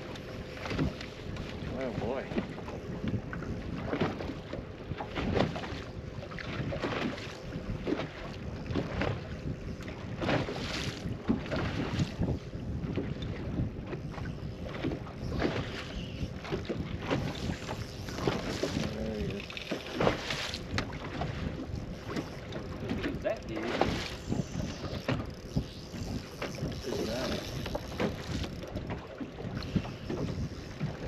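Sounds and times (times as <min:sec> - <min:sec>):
waves slapping boat hull: 0:00.0 - 0:31.0
wind buffeting microphone: 0:00.0 - 0:31.0.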